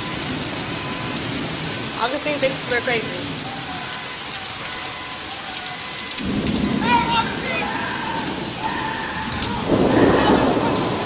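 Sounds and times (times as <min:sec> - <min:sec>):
heavy rain pouring: 0:00.0 - 0:11.0
thunder rumbling: 0:00.0 - 0:11.0.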